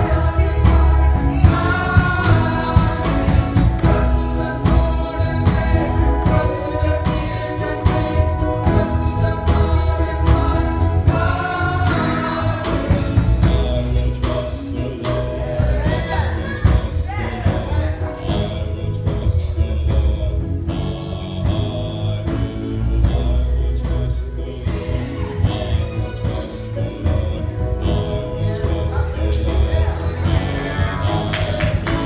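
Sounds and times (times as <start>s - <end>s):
gospel choir singing: 0.0s - 32.0s
heavy bass line: 0.0s - 32.0s
steady beat: 0.0s - 32.0s.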